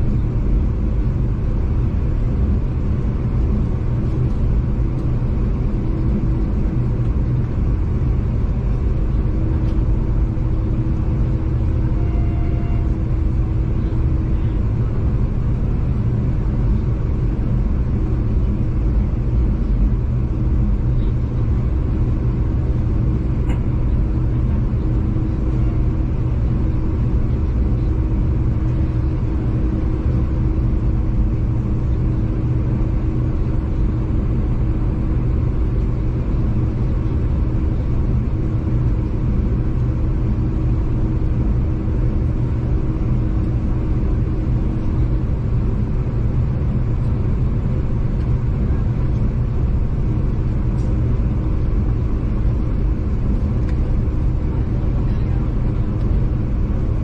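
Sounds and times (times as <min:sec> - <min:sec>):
diesel train rumbling: 0:00.0 - 0:57.0
engine hum: 0:00.0 - 0:57.0.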